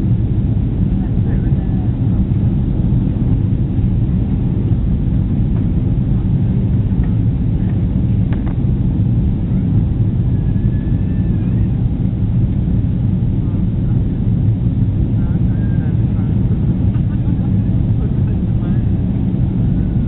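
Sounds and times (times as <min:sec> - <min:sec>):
jet engine and airflow rumble: 0:00.0 - 0:20.0.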